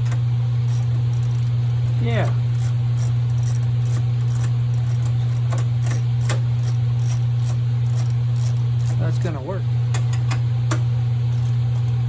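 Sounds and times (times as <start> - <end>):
tools clicking and rattling: 0.0 - 9.3, 9.9 - 12.0
low hum: 0.0 - 12.0.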